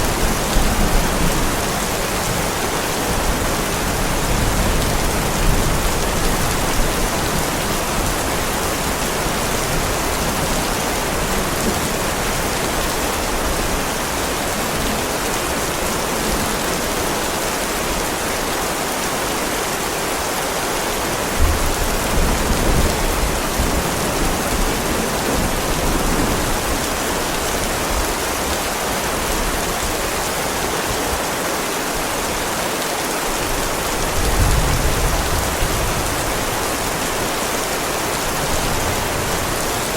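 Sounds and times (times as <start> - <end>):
heavy rain on driveway: 0.0 - 39.9.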